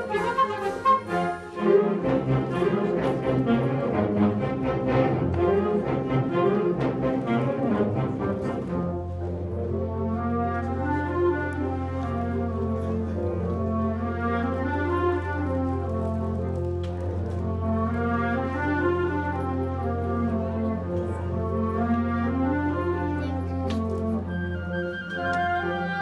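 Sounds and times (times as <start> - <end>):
wind band playing: 0.0 - 26.0.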